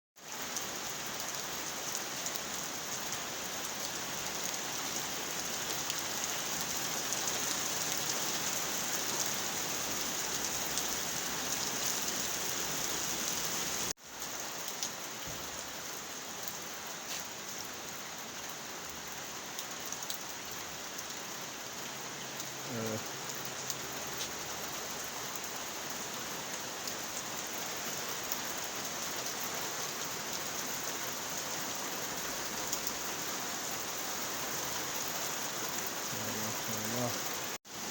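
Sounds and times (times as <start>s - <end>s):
steady rain pouring: 0.2s - 37.9s.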